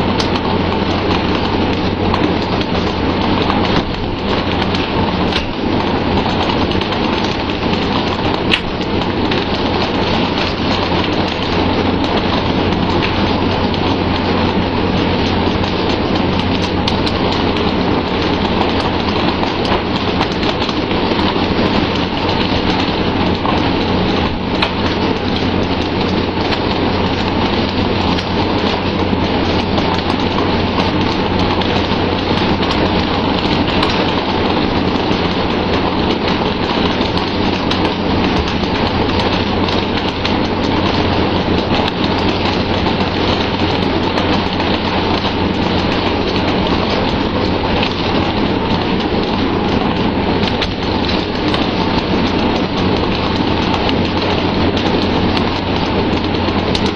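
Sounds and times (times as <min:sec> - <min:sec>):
ship engine hum: 0:00.0 - 0:56.9.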